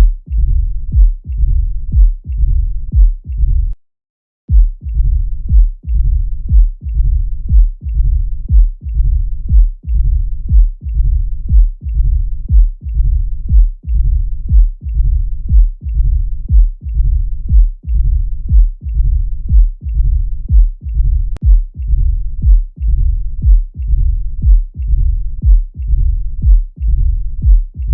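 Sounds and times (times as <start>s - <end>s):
heartbeat valve clicks: 0.0s - 3.8s, 4.5s - 27.9s
low heart rumble: 0.0s - 3.8s, 4.5s - 27.9s.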